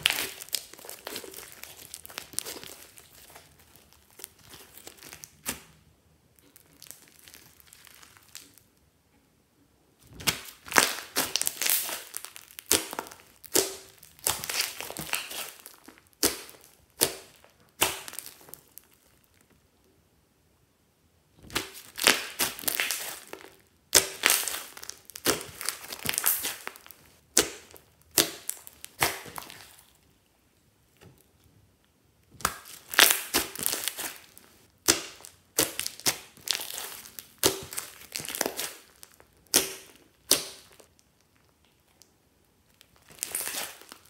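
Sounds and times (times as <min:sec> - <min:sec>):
slime squeezed crackling and popping: 0:00.0 - 0:08.7, 0:10.1 - 0:19.5, 0:21.4 - 0:30.0, 0:32.2 - 0:44.0.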